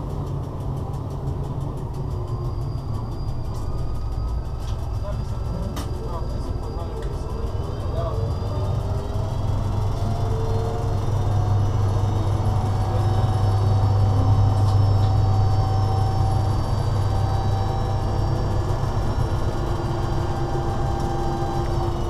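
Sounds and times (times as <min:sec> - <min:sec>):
faint steady whines: 0:00.0 - 0:22.0
locomotive cab running noise: 0:00.0 - 0:22.0.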